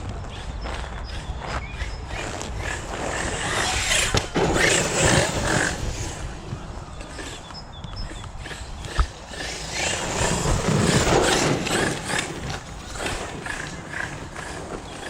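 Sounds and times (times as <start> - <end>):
rc monster truck running: 0.0 - 15.0.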